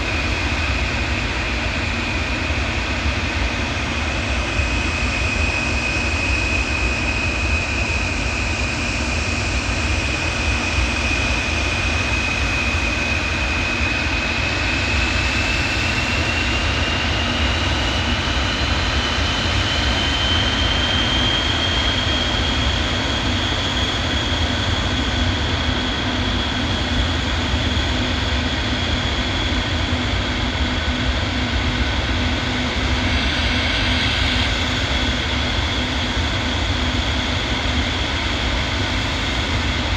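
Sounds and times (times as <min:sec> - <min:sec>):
aircraft engines running: 0:00.0 - 0:39.9.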